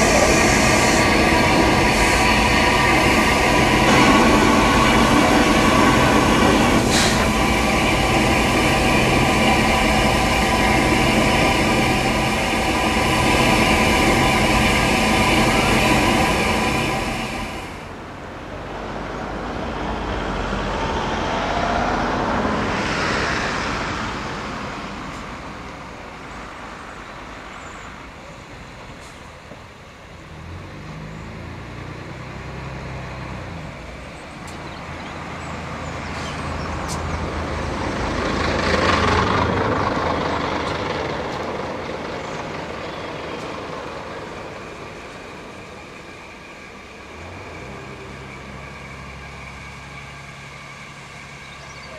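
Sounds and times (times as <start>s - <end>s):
rushing noise: 0.0s - 51.7s
steam train wheels rumbling: 0.0s - 51.9s.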